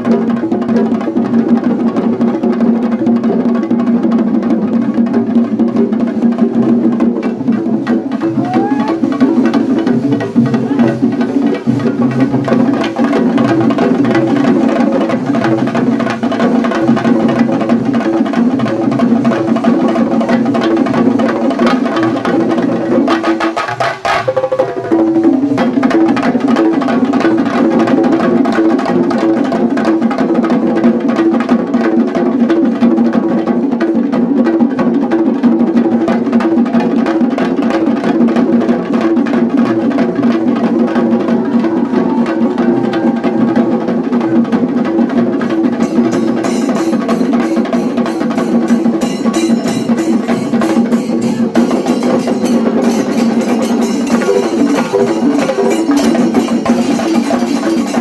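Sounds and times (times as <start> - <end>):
drums beaten fast with sticks: 0.0 - 58.0.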